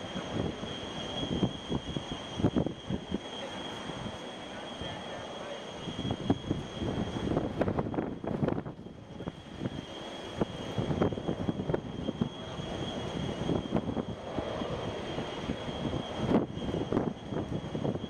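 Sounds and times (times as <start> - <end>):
distant jet engines at taxi power: 0.0 - 18.0.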